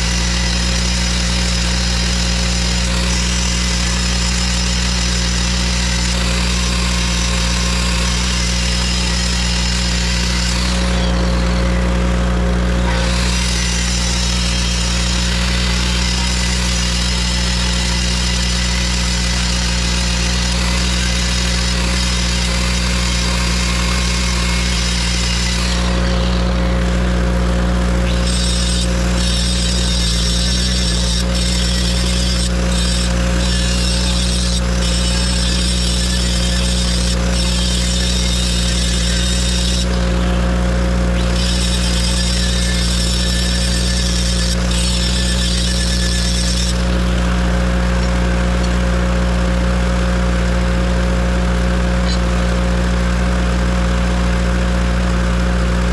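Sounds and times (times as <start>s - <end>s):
grinder sharpening blade: 0.0s - 11.8s, 12.8s - 26.8s, 28.0s - 40.4s, 41.1s - 48.8s.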